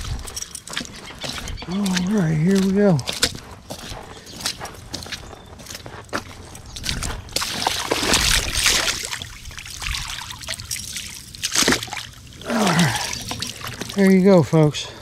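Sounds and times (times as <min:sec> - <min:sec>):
fish splashing in shallow water: 0:00.0 - 0:14.2
water pouring and trickling: 0:00.0 - 0:14.7.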